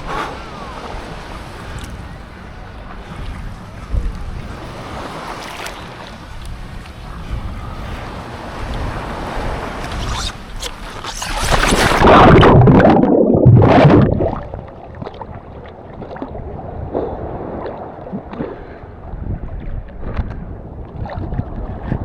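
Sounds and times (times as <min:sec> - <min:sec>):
water lapping and splashing: 0:00.0 - 0:22.0
water rushing around paddleboard: 0:00.0 - 0:22.0.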